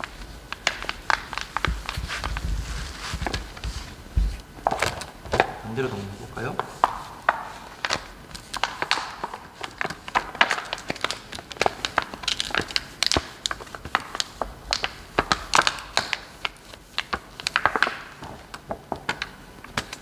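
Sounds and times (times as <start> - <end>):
plastic film crinkling: 0.0 - 20.0.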